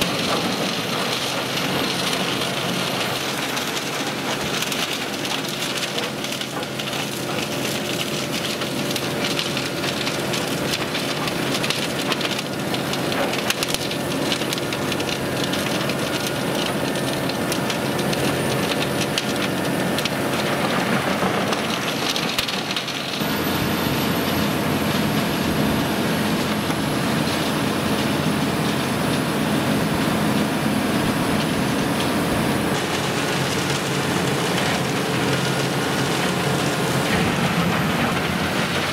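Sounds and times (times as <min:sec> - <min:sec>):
wood chipping crackle: 0:00.0 - 0:23.5, 0:30.4 - 0:38.9
wood chipper droning: 0:00.0 - 0:38.9.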